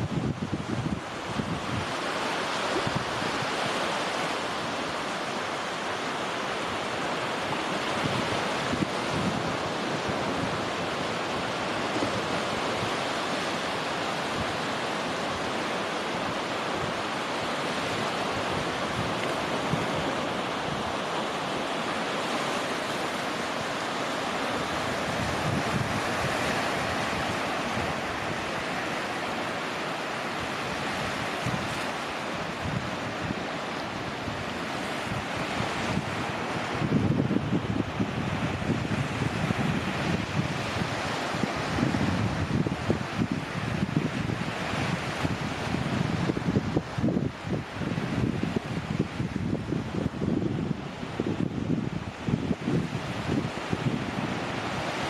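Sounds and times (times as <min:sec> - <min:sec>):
small waves breaking on sand: 0:00.0 - 0:55.0
wind on microphone: 0:00.0 - 0:55.0.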